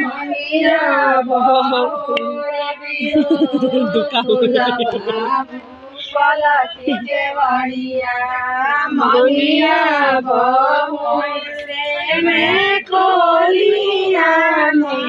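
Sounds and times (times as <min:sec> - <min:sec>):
women singing folk song: 0:00.0 - 0:15.0.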